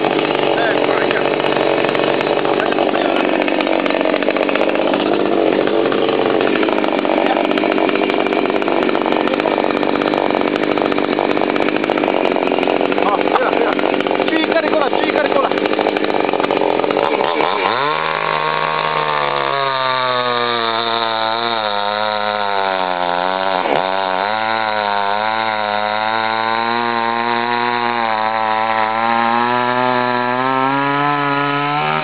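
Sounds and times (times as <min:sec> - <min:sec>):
chainsaw revving and idling: 0:00.0 - 0:32.0.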